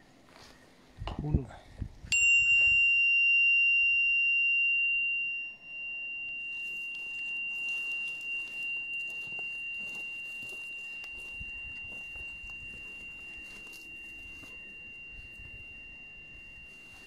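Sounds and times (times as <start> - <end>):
tuning fork ringing: 2.1 - 17.0.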